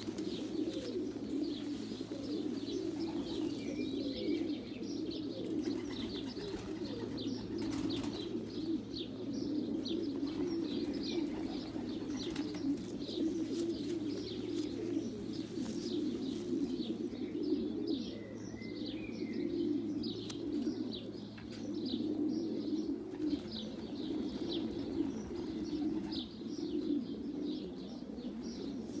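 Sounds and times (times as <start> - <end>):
pigeons cooing: 0.0 - 29.0
small birds chirping: 0.0 - 29.0.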